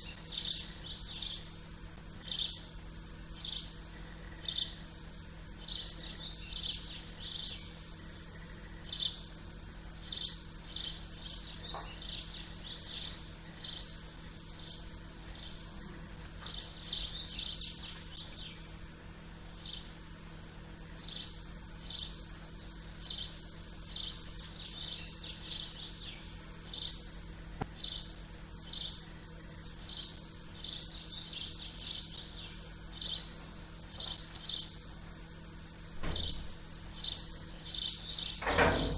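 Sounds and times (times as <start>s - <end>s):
small birds chirping: 0.0s - 38.9s
steady low hum: 0.0s - 38.9s.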